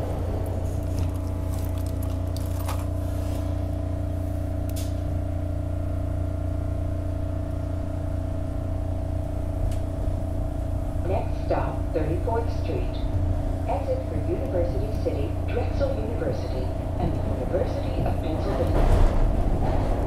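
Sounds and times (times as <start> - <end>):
subway car rumble and hum: 0.0 - 20.0.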